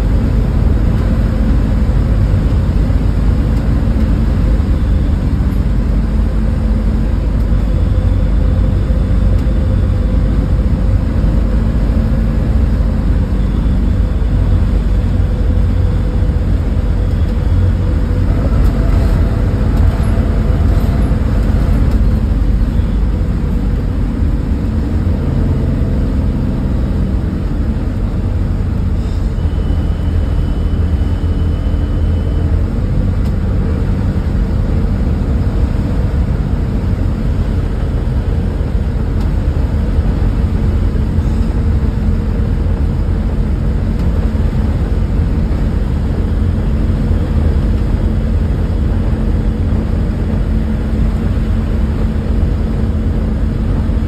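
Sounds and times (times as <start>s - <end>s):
diesel engine drone: 0.0s - 54.0s
road and tyre rumble: 0.0s - 54.0s.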